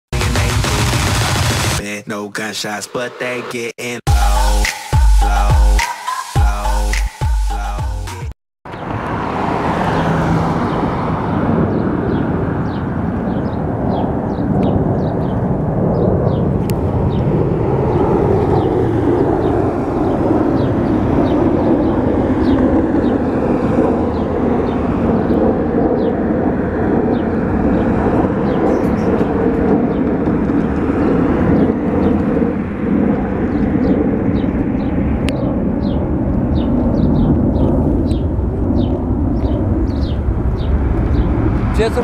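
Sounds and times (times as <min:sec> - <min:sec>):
jet engines roaring: 0:00.2 - 0:01.9, 0:08.7 - 0:42.0.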